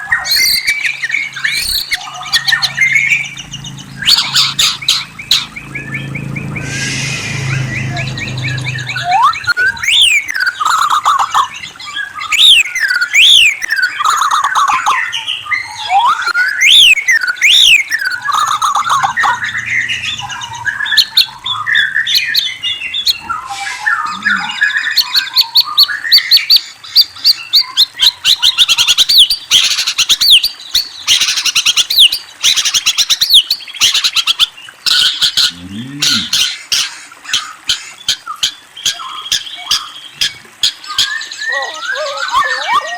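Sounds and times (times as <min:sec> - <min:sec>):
songbird whistles and trills: 0:00.0 - 0:35.3, 0:37.3 - 0:42.9.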